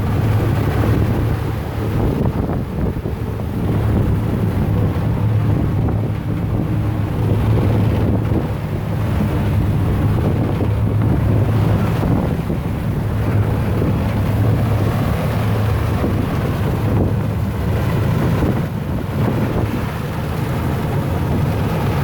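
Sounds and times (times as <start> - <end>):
boat engine droning: 0.0 - 22.0
wind buffeting microphone: 0.0 - 22.0.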